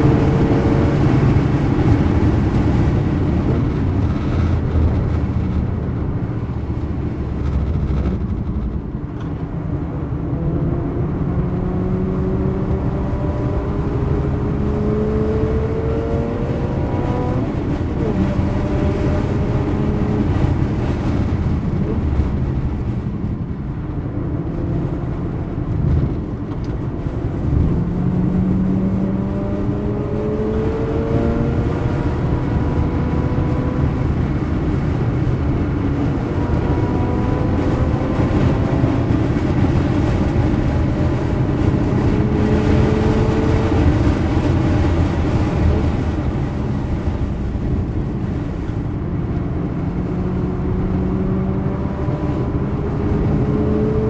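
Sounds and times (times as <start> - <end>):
road and tyre noise: 0.0 - 54.0
rotary engine at full throttle: 0.0 - 54.0.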